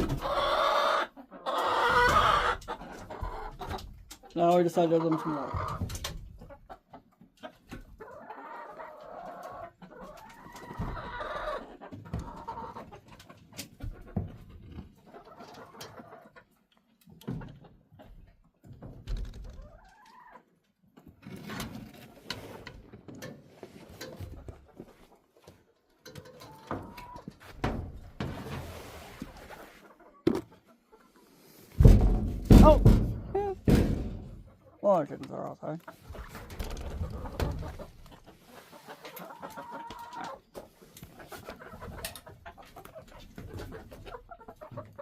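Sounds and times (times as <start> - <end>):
hens clucking: 0.0 - 45.0.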